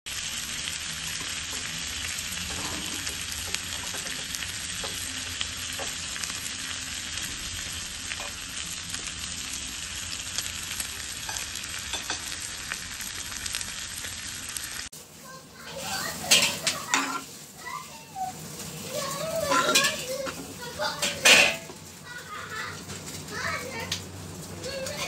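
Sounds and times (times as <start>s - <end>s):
meat sizzling on a grill plate: 0.1s - 25.0s.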